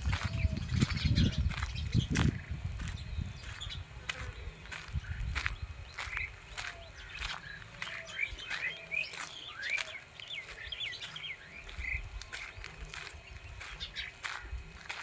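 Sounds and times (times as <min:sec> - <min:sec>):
birds chirping: 0:00.0 - 0:15.0
footsteps on dry leaves: 0:00.0 - 0:15.0.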